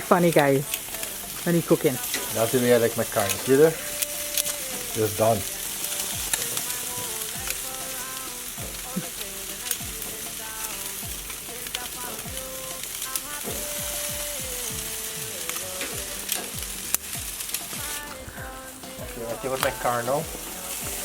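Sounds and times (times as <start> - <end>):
background music: 0.0 - 21.0
meat sizzling on a grill: 0.0 - 21.0.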